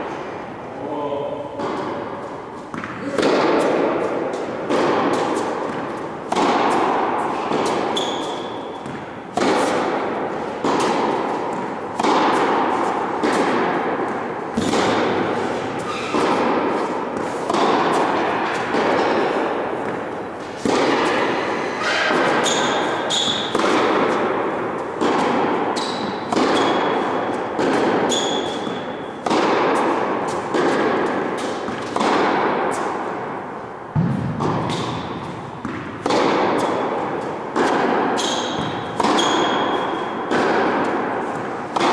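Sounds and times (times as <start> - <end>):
tennis ball hit by rackets: 1.6 - 41.9
ball bouncing on court: 2.7 - 21.3, 21.9 - 32.9, 33.9 - 41.9.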